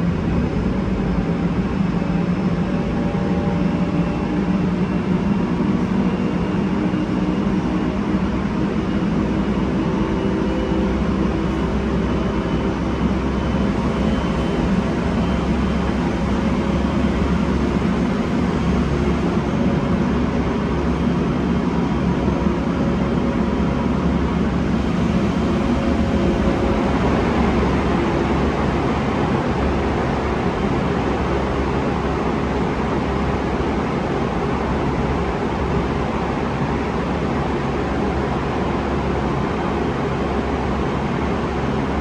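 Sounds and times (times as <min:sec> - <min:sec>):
train rumbling by: 0:00.0 - 0:42.0.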